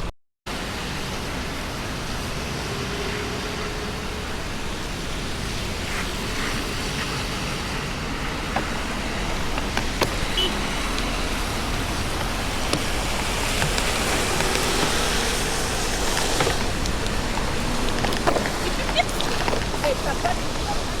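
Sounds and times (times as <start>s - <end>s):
road noise on wet road: 0.5s - 21.0s.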